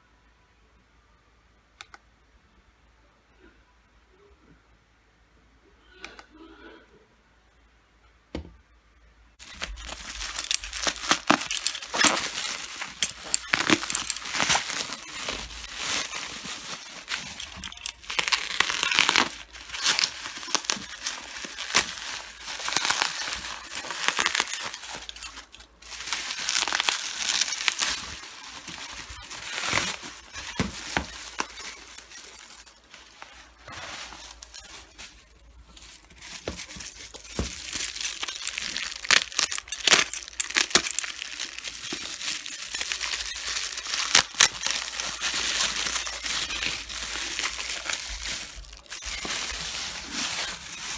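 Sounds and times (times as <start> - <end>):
packaging crinkling and tearing: 9.4 - 50.9.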